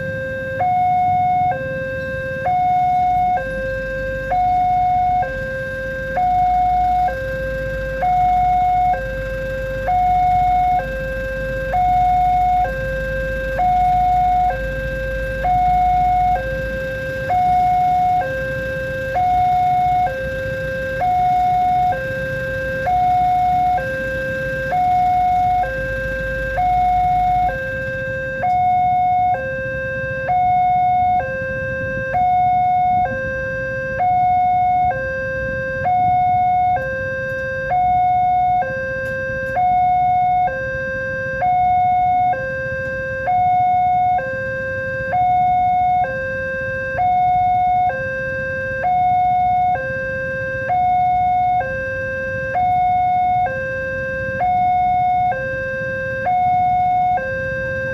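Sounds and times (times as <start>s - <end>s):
two-tone crossing warning alarm: 0.0s - 57.9s.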